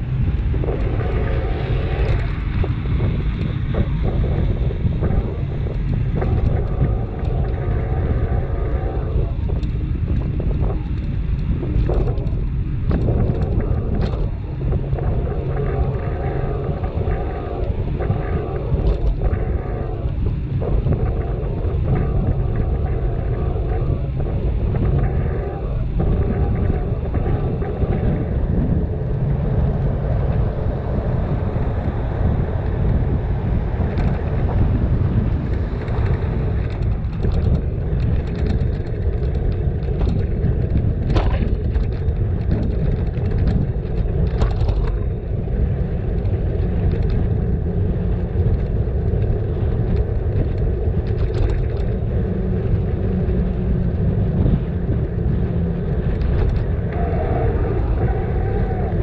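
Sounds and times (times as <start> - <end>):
bicycle tyres on road: 0.0 - 59.0
wind on microphone: 0.0 - 59.0.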